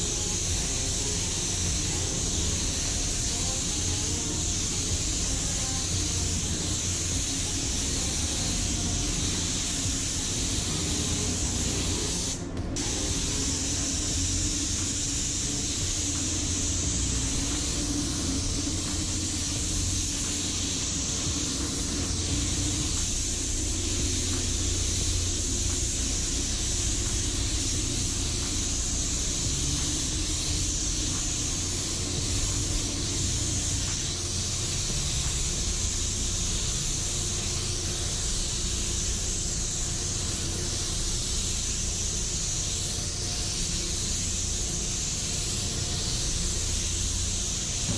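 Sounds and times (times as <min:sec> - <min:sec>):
spray gun hissing: 0:00.0 - 0:47.9.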